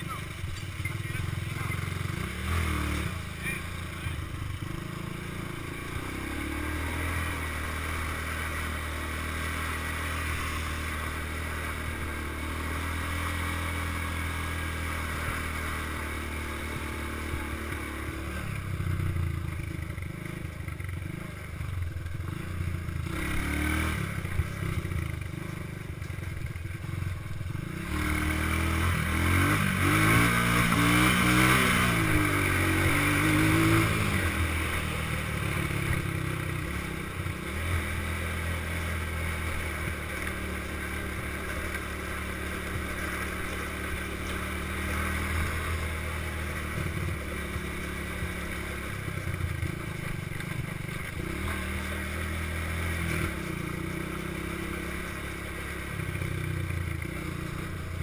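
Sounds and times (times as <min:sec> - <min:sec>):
atv engine revving: 0:00.0 - 0:58.0
wind and road noise: 0:00.0 - 0:58.0.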